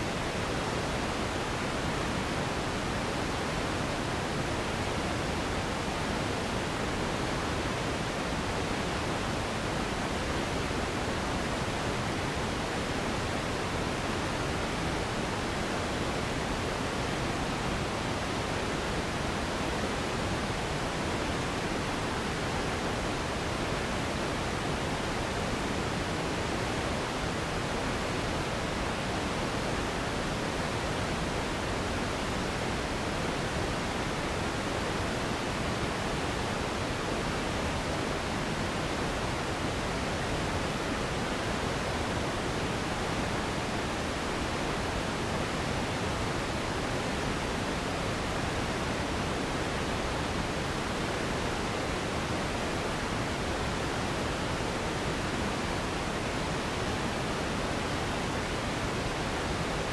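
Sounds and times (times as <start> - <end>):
smooth sleep noise hiss: 0.0 - 59.9.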